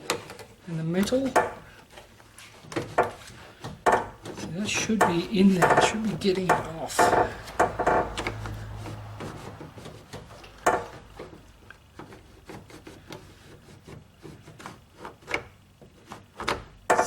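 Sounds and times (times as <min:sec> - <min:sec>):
tool scraping plastic and metal: 0:00.0 - 0:17.0.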